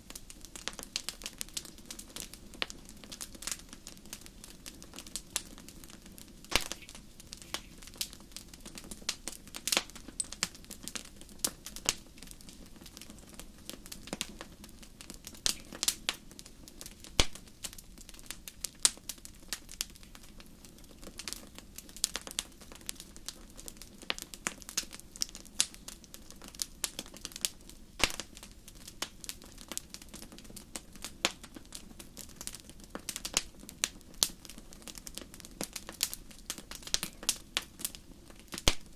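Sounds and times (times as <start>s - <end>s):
low steady hiss: 0.0s - 38.9s
wood fire crackling: 0.0s - 38.9s.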